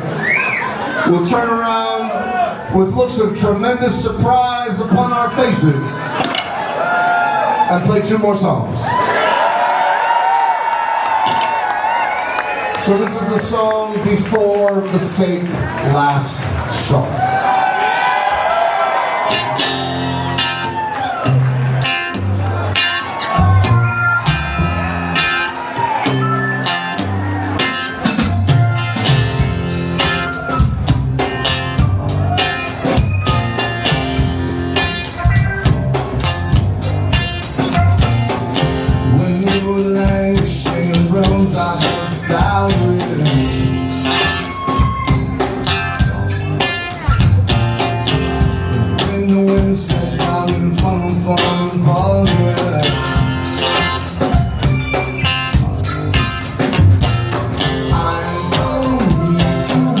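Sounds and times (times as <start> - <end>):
live rock band playing: 2.7 - 6.6, 11.0 - 60.0.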